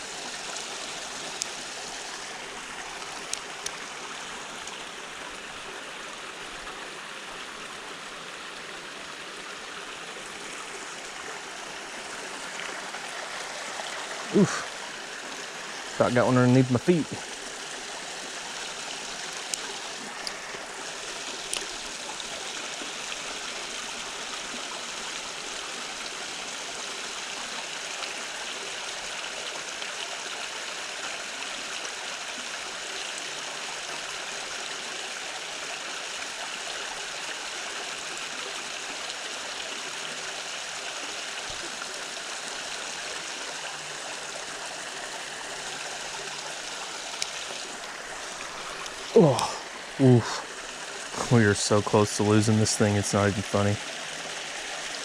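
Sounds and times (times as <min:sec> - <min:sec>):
creek water running over rocks: 0:00.0 - 0:55.0.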